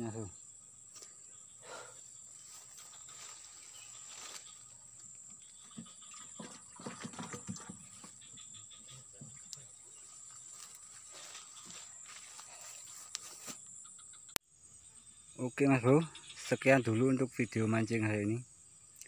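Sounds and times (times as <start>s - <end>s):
high insect drone: 0.0s - 6.7s, 7.6s - 19.0s.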